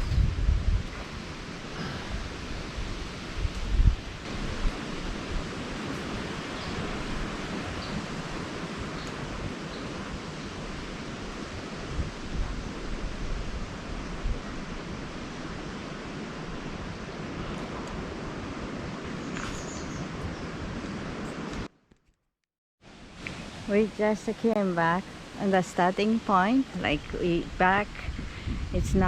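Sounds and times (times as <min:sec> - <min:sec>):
rushing water: 0:00.0 - 0:21.7, 0:22.8 - 0:29.0
wind buffeting microphone: 0:00.0 - 0:21.7, 0:23.2 - 0:29.0.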